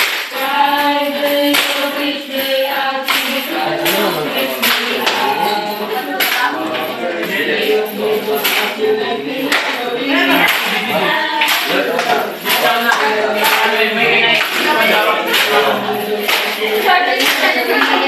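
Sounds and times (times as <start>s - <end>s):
people clapping: 0.0s - 18.0s
group chanting a cheer: 1.3s - 18.0s.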